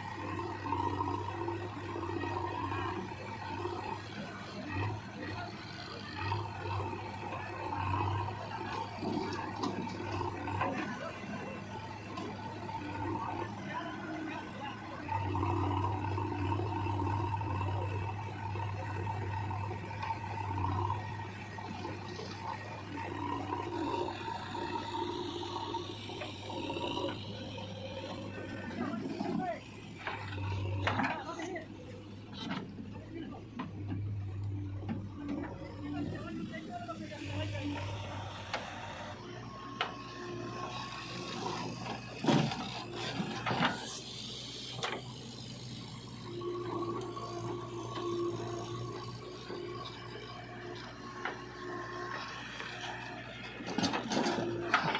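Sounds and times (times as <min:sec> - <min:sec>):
backhoe diesel engine droning: 0:00.0 - 0:54.9.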